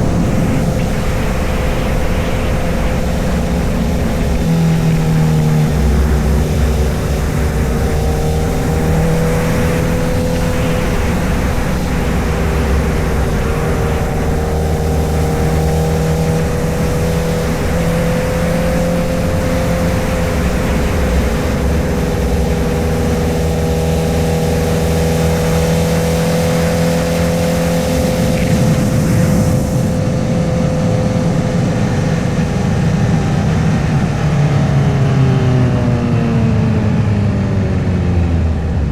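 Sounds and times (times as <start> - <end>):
motorcycle engine cruising: 0.0 - 38.9
rushing wind noise: 0.0 - 38.9.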